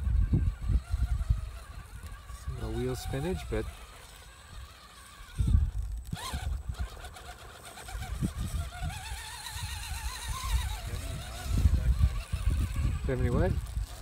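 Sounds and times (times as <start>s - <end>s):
electric motor whine: 0.0s - 14.0s
wind buffeting microphone: 0.0s - 14.0s.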